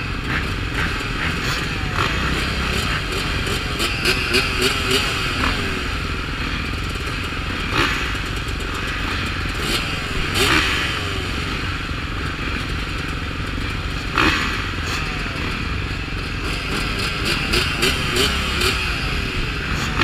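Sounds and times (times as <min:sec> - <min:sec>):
dirt bikes idling: 0:00.0 - 0:20.0.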